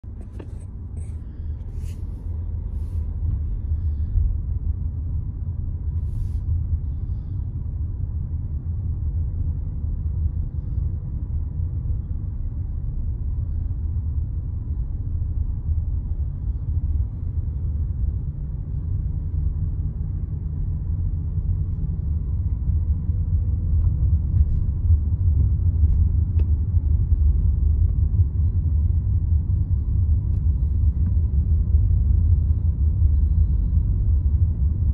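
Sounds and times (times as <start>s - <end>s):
car interior driving rumble: 0.0s - 34.9s
faint steady hum: 0.0s - 34.9s.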